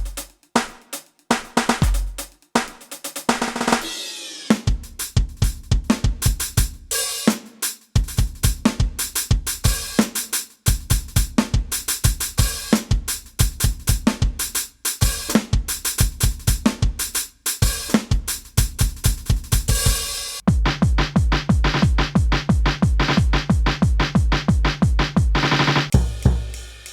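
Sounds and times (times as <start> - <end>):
electronic drum kit groove: 0.0 - 26.9.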